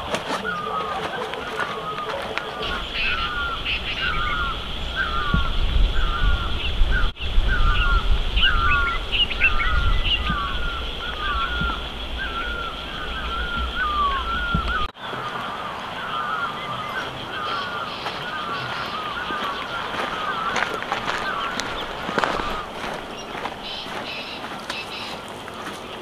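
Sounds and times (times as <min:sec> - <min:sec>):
bird warbling call: 0:00.0 - 0:26.0
higher bird chirps: 0:00.0 - 0:26.0.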